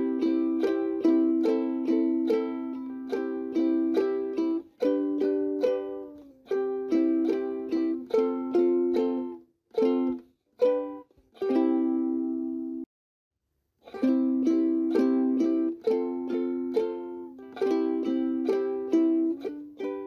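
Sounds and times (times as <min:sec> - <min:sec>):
plucked string chords: 0:00.0 - 0:12.8, 0:13.8 - 0:20.0.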